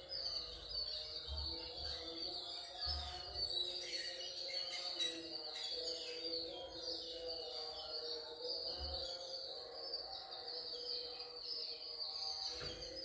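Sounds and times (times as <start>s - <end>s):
quiet background music: 0.0s - 13.0s.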